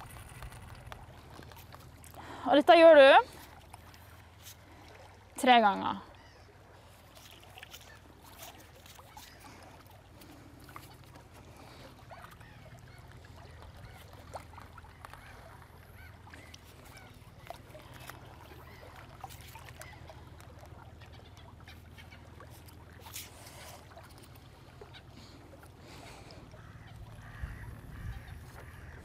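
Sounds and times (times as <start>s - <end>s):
small waves lapping on rocks: 0.0s - 29.0s.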